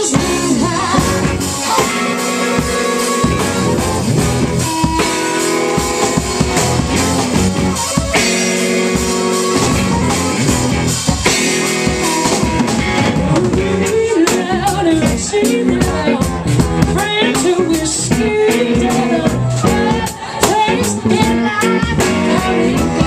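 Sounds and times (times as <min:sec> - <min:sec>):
drum kit: 0:00.0 - 0:23.0
guitar: 0:00.0 - 0:23.0
live rock band playing: 0:00.0 - 0:23.0.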